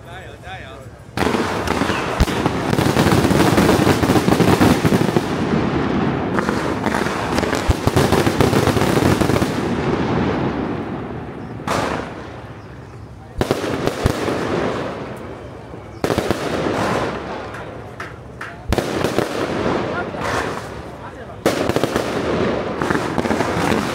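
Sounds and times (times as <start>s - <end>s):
fireworks cracking and banging: 0.1s - 23.9s.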